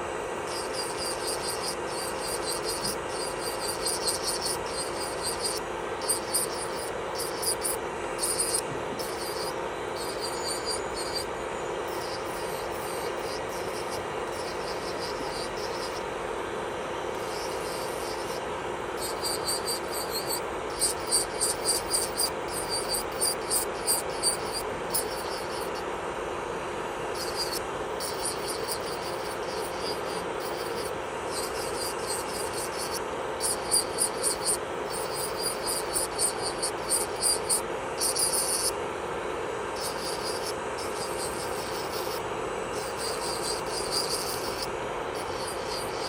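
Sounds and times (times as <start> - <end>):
drill bit grinding against nail: 0.0 - 16.1, 17.1 - 18.4, 19.0 - 25.8, 27.1 - 38.8, 39.8 - 46.0
electric nail drill humming: 0.0 - 16.3, 17.1 - 25.9, 27.0 - 38.8, 39.6 - 46.0.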